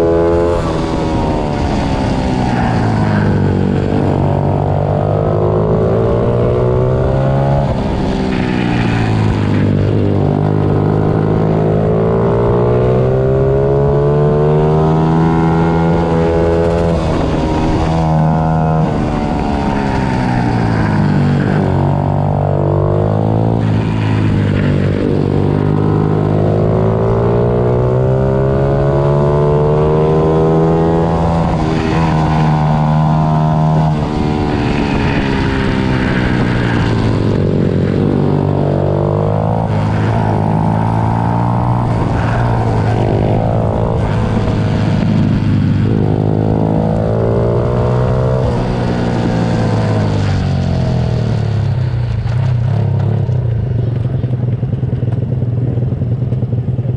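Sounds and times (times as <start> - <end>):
pit bike engines revving: 0.0 - 51.6.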